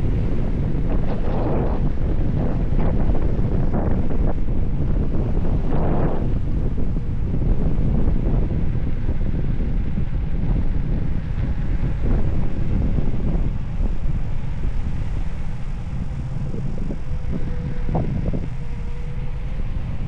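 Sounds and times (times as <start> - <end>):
faint steady whine: 0.0 - 20.0
wind buffeting microphone: 0.0 - 20.0.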